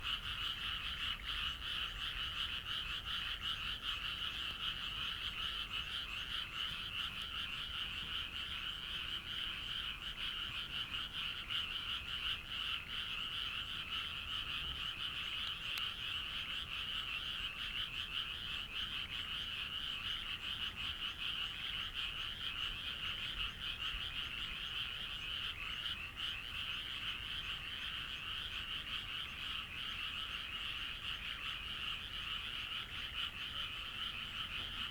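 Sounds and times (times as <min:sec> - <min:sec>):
chorus of frogs croaking: 0:00.0 - 0:34.9.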